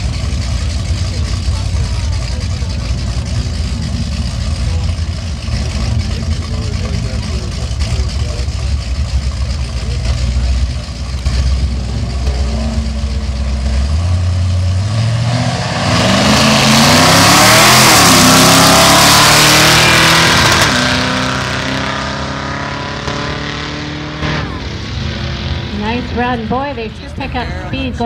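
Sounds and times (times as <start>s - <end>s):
drag cars idling: 0.0s - 28.0s
drag cars revving and accelerating: 0.0s - 28.0s.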